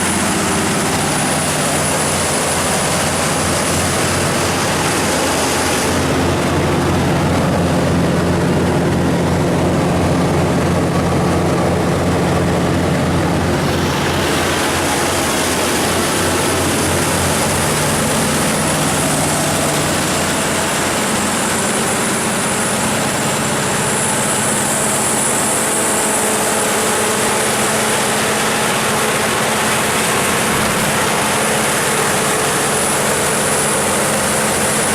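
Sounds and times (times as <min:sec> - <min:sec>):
higher rushing sound: 0:00.0 - 0:28.8
diesel generator running: 0:00.0 - 0:34.9.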